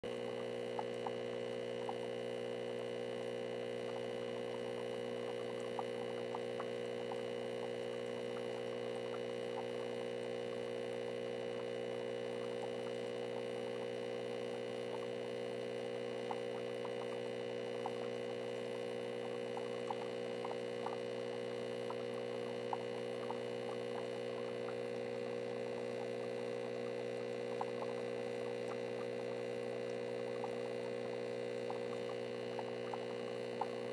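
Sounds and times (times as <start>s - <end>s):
steady hum of tones: 0.0s - 33.9s
faint small ticks: 0.1s - 33.9s.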